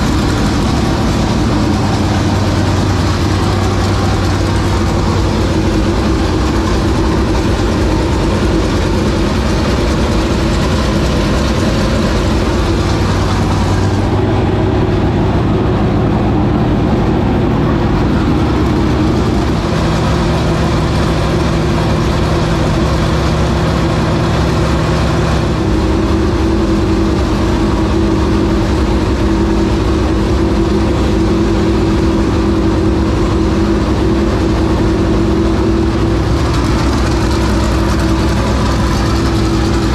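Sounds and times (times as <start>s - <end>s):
race car engine idling loudly: 0.0s - 39.9s.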